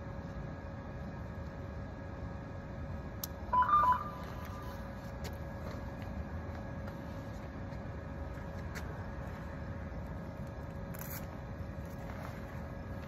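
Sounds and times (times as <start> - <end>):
faint steady hum: 0.0 - 13.0
urban background rumble: 0.0 - 13.0.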